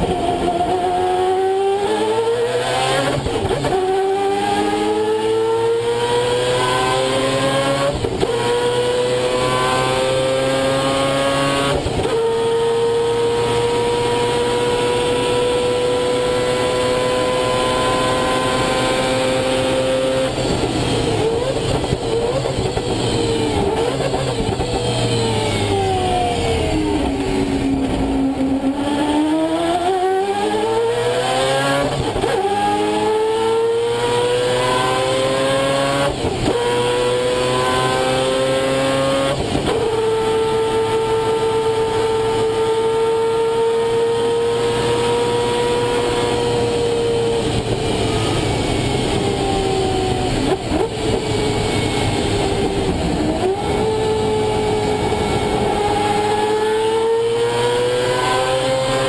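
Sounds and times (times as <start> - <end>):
rotary engine revving: 0.0 - 59.0.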